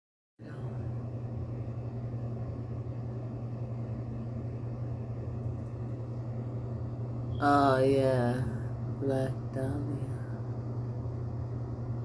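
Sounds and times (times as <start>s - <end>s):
low droning hum: 0.4s - 12.0s.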